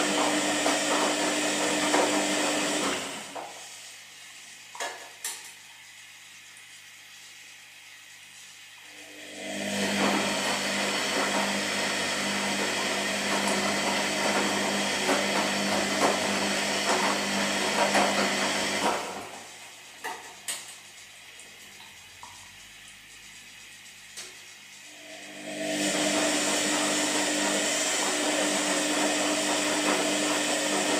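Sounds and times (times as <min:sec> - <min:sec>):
washing machine running: 0:00.0 - 0:30.9.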